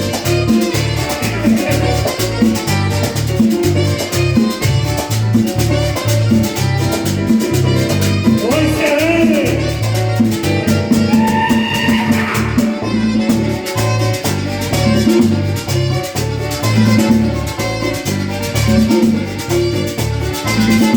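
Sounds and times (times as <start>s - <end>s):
latin band music: 0.0s - 20.9s.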